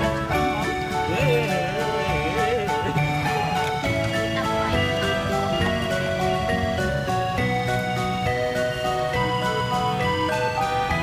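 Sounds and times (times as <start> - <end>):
upbeat music with plucked strings: 0.0 - 11.0.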